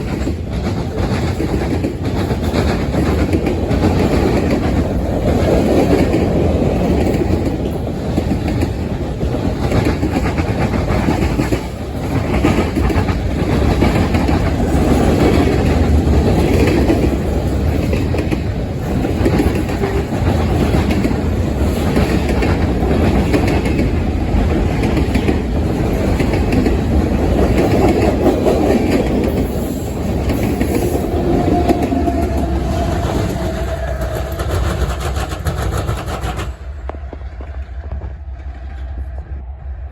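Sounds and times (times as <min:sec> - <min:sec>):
wheels clacking over rail joints: 0:00.0 - 0:38.1
train rumbling past: 0:00.0 - 0:39.9.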